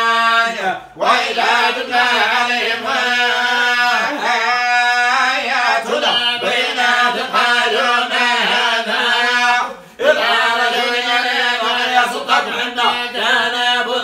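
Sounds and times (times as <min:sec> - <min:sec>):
men chanting unaccompanied: 0:00.0 - 0:14.0.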